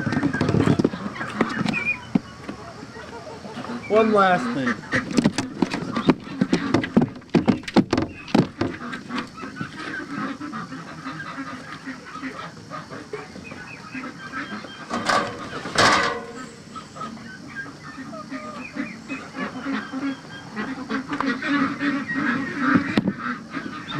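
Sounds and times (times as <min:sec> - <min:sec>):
ducks knocking and tapping: 0:00.0 - 0:18.1, 0:18.7 - 0:23.9.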